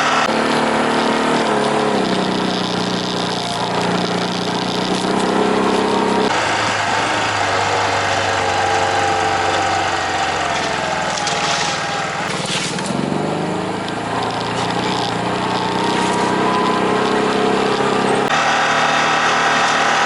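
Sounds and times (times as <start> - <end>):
off-road vehicle engine: 0.0 - 20.0.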